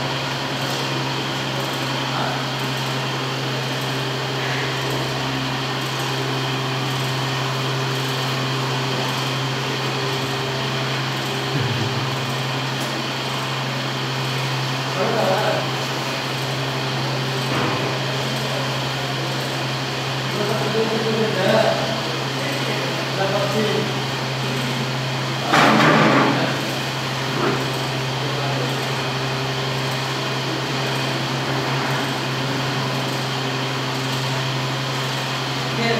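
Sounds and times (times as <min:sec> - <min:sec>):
electric fan humming: 0:00.0 - 0:35.9.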